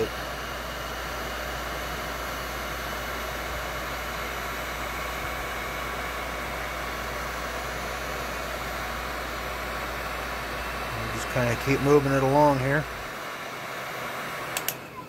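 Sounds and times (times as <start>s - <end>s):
heat gun blowing air: 0.0s - 15.0s.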